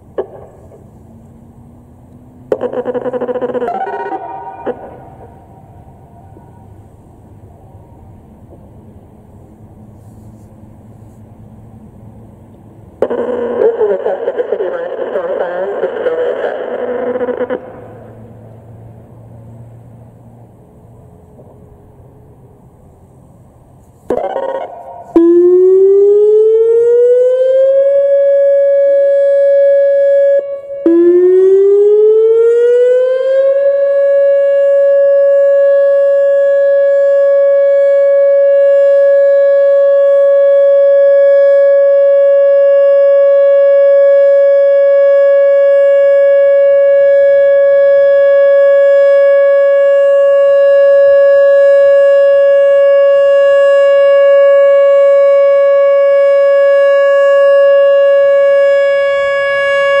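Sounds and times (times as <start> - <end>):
electronic warning siren tone: 0.0 - 8.5, 13.0 - 18.8, 24.1 - 60.0.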